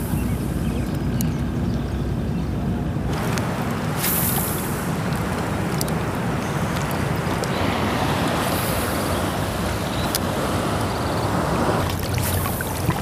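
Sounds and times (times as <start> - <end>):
water lapping against a hull: 0.0 - 13.0
wind buffeting the microphone: 0.0 - 13.0.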